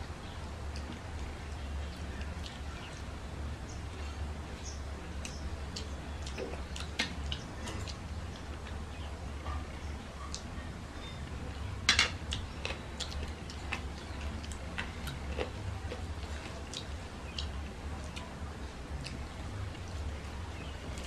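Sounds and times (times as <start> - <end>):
low steady hum: 0.0 - 21.0
wet clicks and smacks of eating: 0.2 - 3.1, 4.0 - 9.6, 11.6 - 18.3, 19.0 - 21.0.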